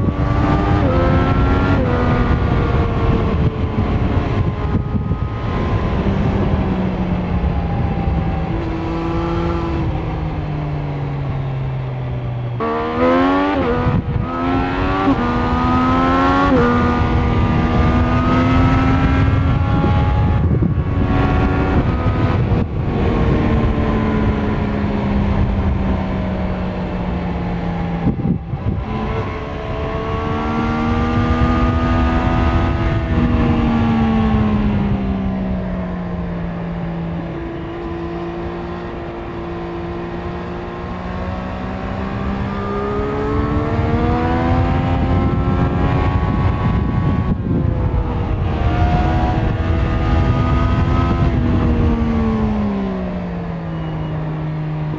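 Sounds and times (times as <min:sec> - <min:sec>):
motorcycle engine revving: 0:00.0 - 0:54.9
wind and road noise: 0:00.0 - 0:54.9.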